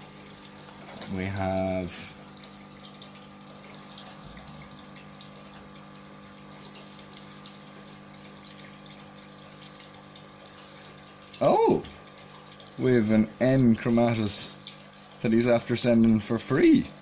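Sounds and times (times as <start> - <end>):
faint trickling: 0.0 - 17.0.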